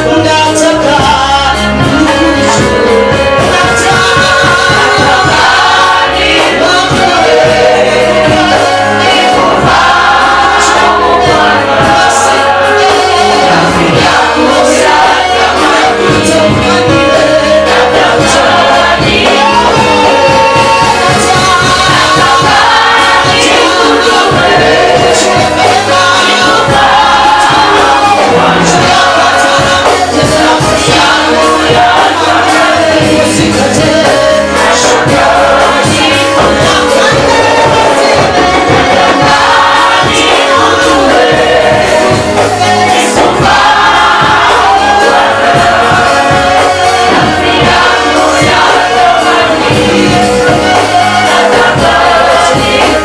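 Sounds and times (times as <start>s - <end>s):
choir singing gospel music: 0.0s - 53.0s.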